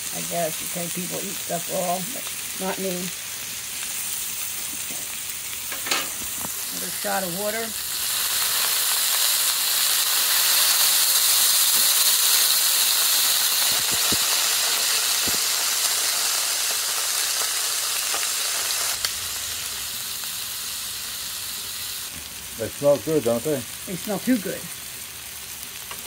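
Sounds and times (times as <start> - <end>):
water sizzling on hot griddle: 0.0 - 26.0.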